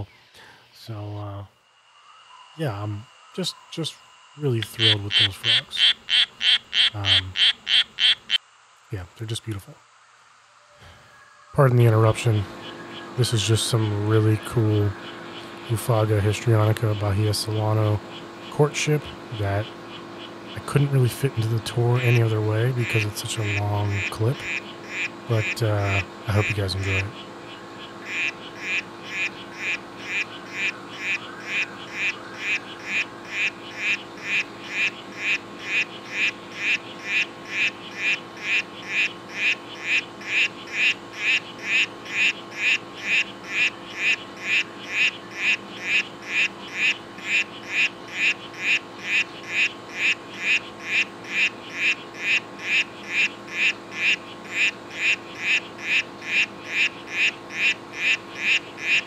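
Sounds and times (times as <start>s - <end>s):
frog chirping: 1.5s - 8.4s, 11.0s - 59.0s.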